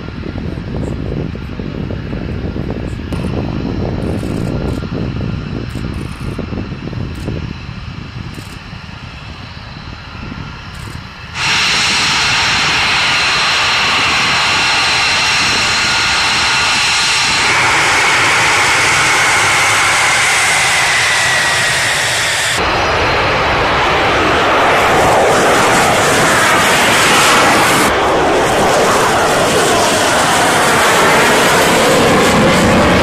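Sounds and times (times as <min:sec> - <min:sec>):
jet engine whine: 0:00.0 - 0:33.0
jet rushing roar: 0:00.0 - 0:33.0.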